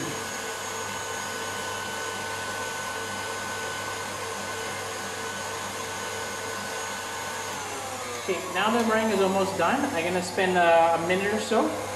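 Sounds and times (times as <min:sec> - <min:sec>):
stand mixer whirring: 0:00.0 - 0:11.9.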